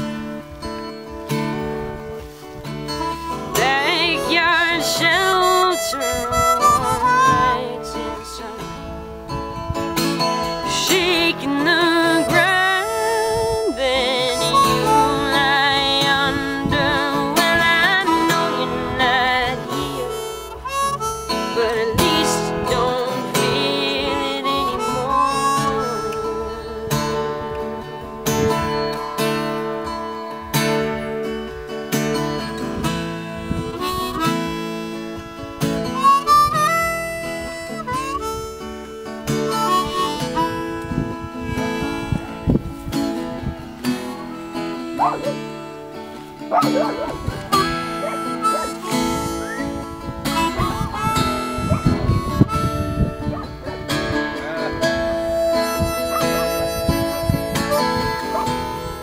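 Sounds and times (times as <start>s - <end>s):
strummed acoustic guitar: 0.0s - 59.0s
harmonica solo: 2.8s - 8.5s, 10.6s - 16.4s, 17.3s - 31.4s, 32.1s - 59.0s.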